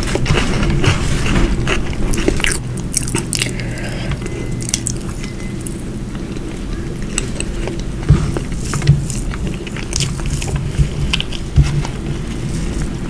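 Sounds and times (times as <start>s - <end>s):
chewing and mouth sounds: 0.0s - 13.0s
steady low hum: 0.0s - 13.0s.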